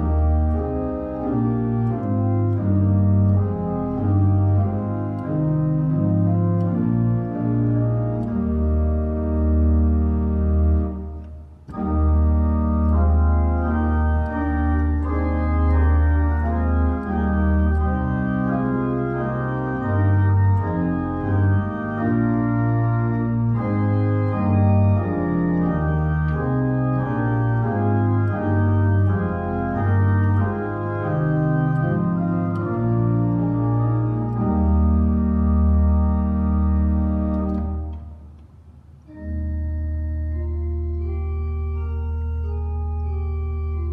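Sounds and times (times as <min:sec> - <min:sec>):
church organ chords: 0:00.0 - 0:38.4, 0:39.0 - 0:43.9.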